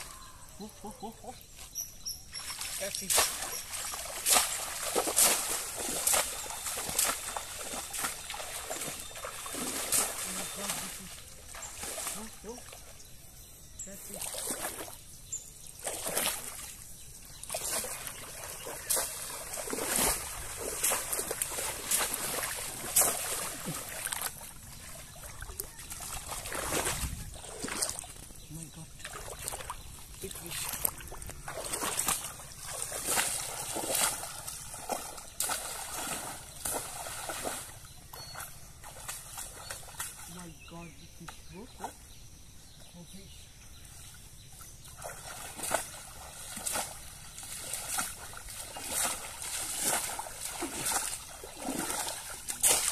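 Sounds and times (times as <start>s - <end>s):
pond water splashing: 0.0s - 42.1s, 42.9s - 52.9s.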